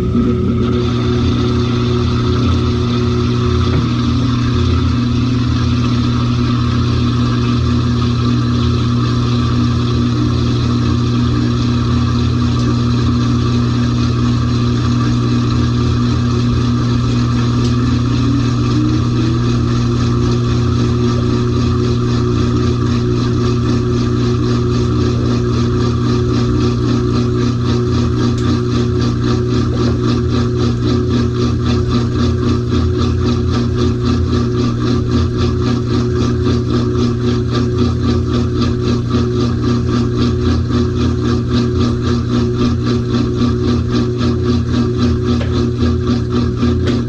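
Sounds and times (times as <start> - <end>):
washing machine motor hum: 0.0 - 47.0.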